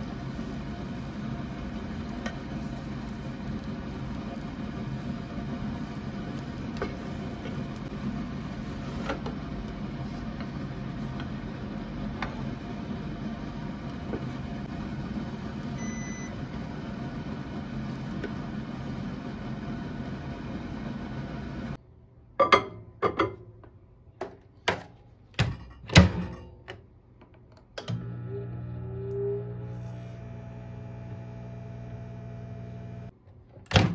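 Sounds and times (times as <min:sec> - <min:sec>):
induction hob humming: 0:00.0 - 0:21.8, 0:27.8 - 0:33.9
microwave oven humming: 0:00.0 - 0:21.8, 0:27.8 - 0:33.9.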